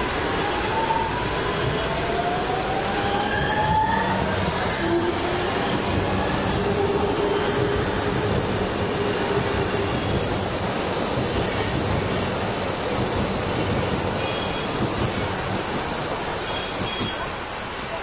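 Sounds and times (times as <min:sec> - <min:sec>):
train wheels rumbling on rail: 0:00.0 - 0:18.0
train whine: 0:00.0 - 0:18.0.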